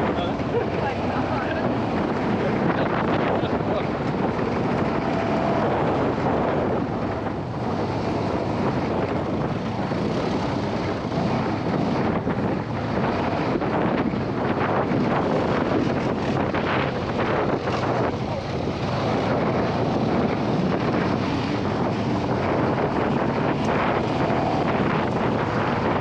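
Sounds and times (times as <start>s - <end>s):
vehicle engine running: 0.0s - 26.0s
wind buffeting microphone: 0.0s - 26.0s.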